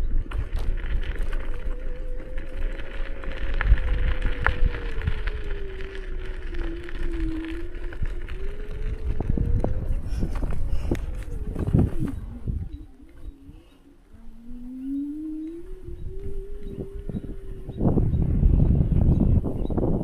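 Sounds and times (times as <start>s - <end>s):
electric motor whining: 0.0s - 20.0s
rumble of wind and tyres: 0.0s - 20.0s.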